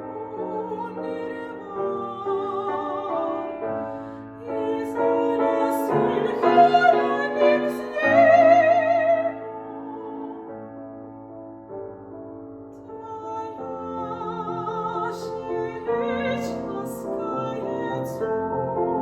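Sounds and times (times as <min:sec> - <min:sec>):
soprano singing with vibrato: 0:00.0 - 0:10.6, 0:12.9 - 0:19.0
piano accompaniment: 0:00.0 - 0:19.0.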